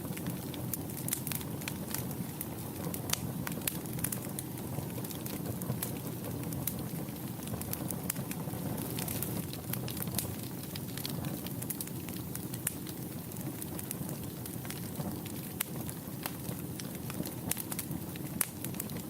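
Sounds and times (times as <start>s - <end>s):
fire crackles and pops: 0.0s - 19.0s
wood fire burning: 0.0s - 19.0s.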